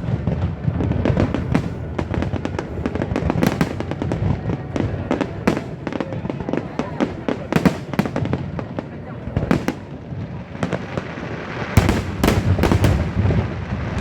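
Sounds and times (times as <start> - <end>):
continuous rumble: 0.0 - 14.0
fireworks bangs and crackles: 0.0 - 14.0.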